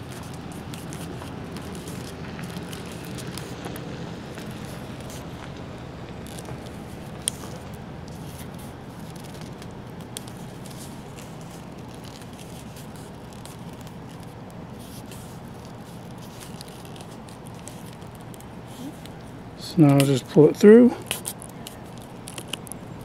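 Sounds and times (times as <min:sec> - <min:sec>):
leather lace rubbing and scratching: 0:00.0 - 0:20.2, 0:21.0 - 0:23.0
low background rumble: 0:00.0 - 0:23.0.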